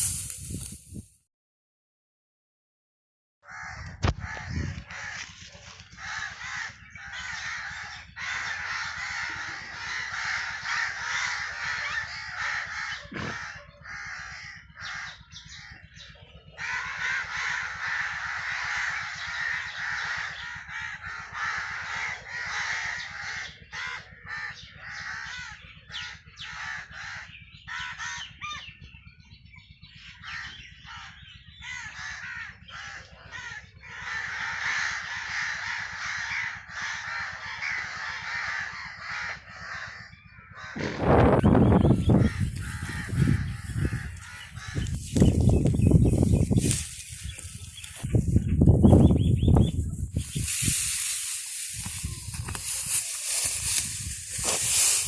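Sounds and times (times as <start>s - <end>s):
crows cawing: 3.4s - 15.9s, 16.5s - 28.7s, 30.2s - 55.0s.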